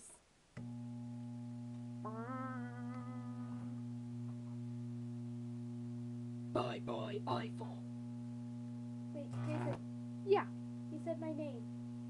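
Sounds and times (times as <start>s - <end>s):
electric arc buzzing: 0.6s - 12.0s.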